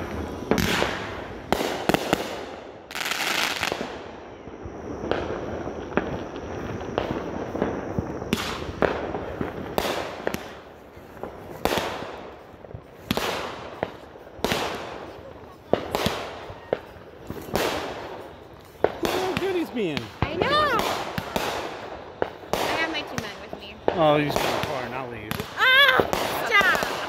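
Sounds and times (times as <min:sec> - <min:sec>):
firework bangs: 0:00.0 - 0:27.0
fireworks hissing: 0:00.0 - 0:27.0.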